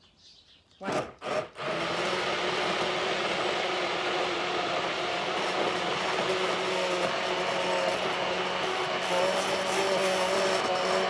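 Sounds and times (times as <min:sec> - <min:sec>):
immersion blender running: 0:00.8 - 0:11.0.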